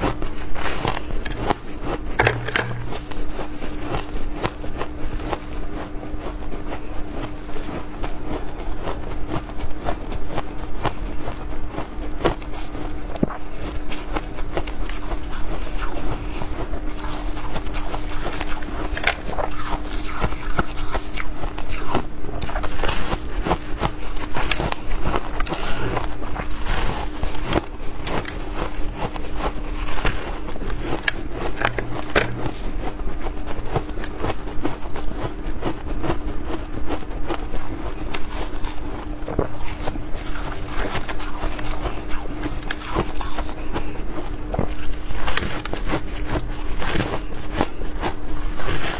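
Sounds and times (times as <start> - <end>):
crunching and chewing ice: 0.0 - 48.9
steady hum: 0.0 - 48.9.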